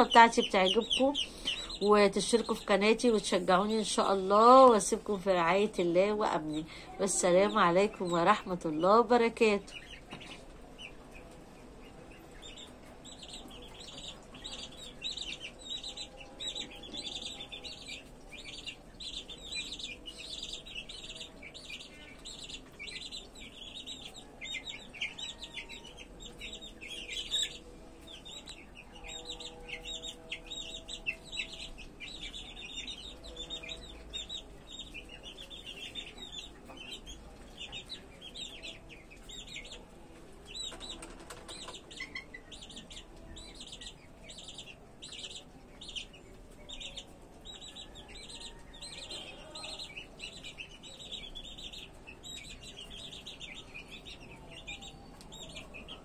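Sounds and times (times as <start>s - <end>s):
chicks and ducklings peeping: 0.0s - 56.0s.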